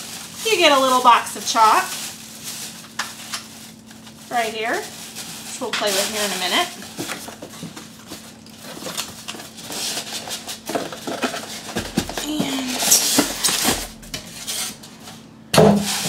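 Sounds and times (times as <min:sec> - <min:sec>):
cardboard and foam rustling: 0:00.0 - 0:15.2.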